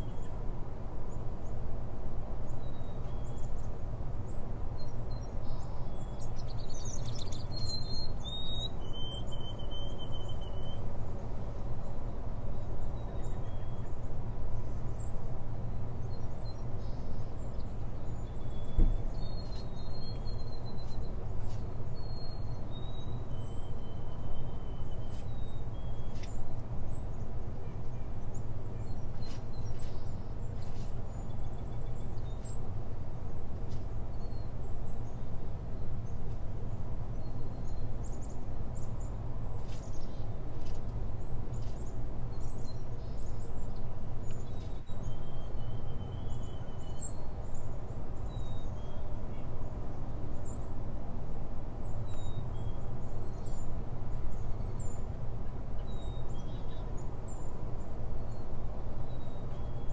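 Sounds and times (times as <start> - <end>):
small birds chirping: 2.5 - 11.2, 11.8 - 50.7, 51.8 - 59.9.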